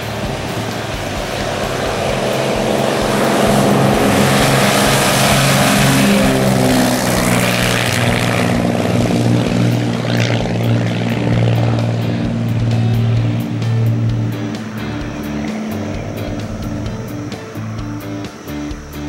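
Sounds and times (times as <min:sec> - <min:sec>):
twin-engine airplane taking off: 0:00.0 - 0:19.0.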